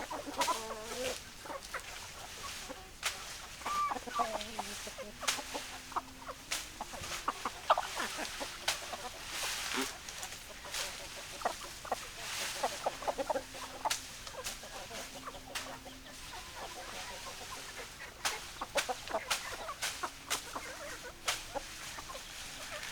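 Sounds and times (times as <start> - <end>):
hens clucking: 0.0 - 22.9.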